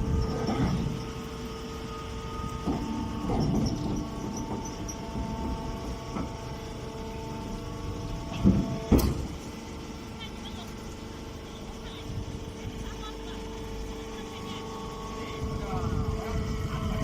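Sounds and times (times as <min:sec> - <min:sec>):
machinery humming and rumbling: 0:00.0 - 0:17.0.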